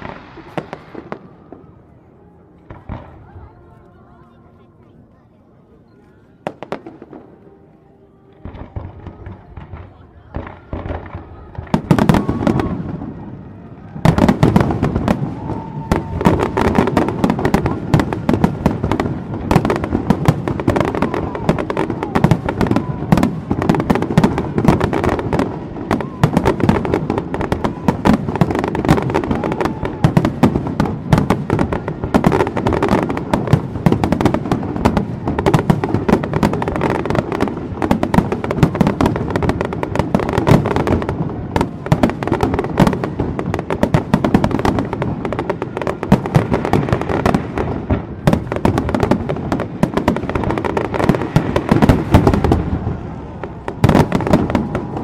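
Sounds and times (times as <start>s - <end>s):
fireworks bangs and crackling: 0.0s - 3.9s, 6.3s - 55.0s.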